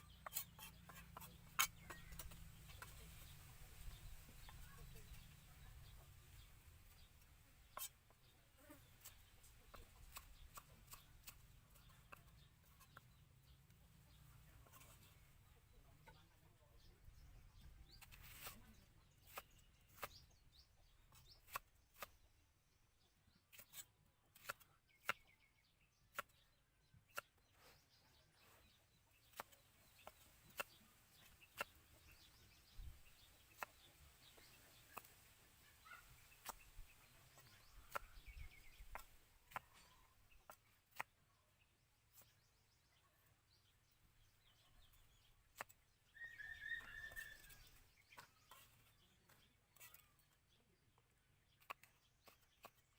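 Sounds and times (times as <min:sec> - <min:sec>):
faint chicken clucking: 0:00.0 - 0:52.9.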